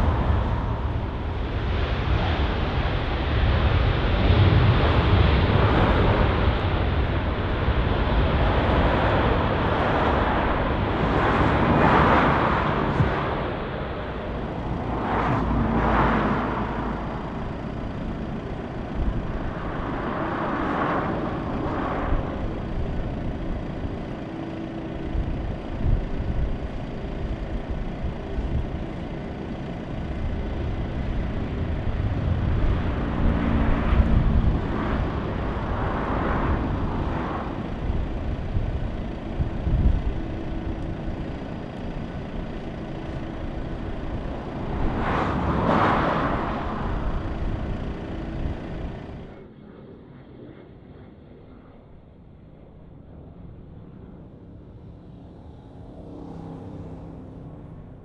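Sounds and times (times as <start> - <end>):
jet engines roaring on landing: 0.0 - 58.0
steady jet engine noise: 0.0 - 58.0.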